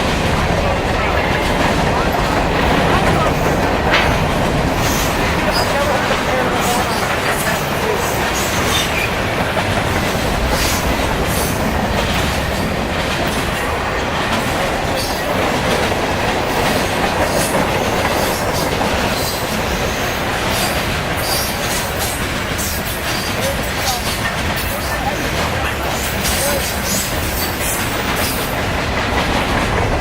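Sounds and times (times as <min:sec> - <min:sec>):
freight train wheels rumbling: 0:00.0 - 0:30.0
rail joints clicking: 0:00.0 - 0:30.0.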